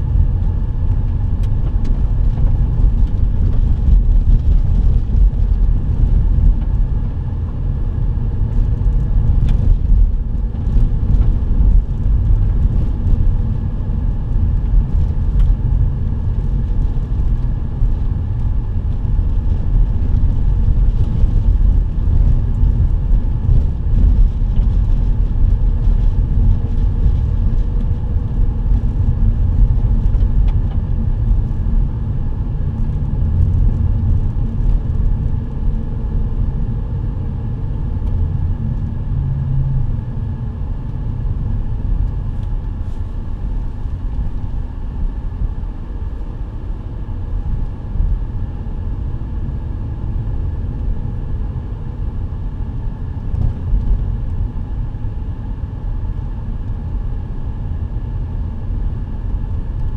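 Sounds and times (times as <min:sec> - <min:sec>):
vehicle engine and tyres rumbling: 0:00.0 - 0:59.9.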